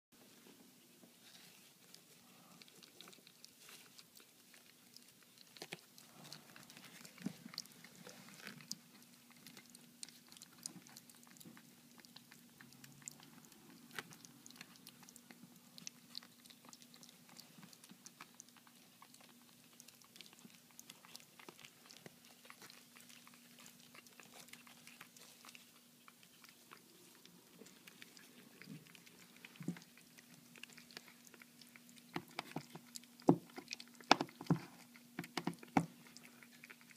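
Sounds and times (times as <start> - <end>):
puppies lapping and chewing: 0.2 - 36.9
thin steady hum: 0.2 - 36.9.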